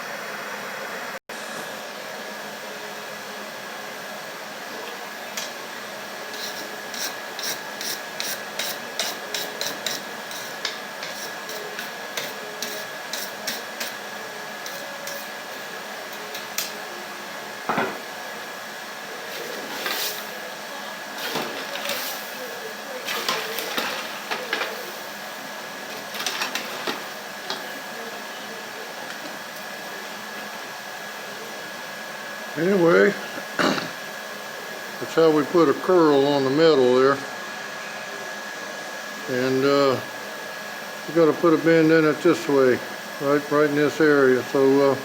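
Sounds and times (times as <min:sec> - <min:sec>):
forge blower running: 0:00.0 - 0:45.0.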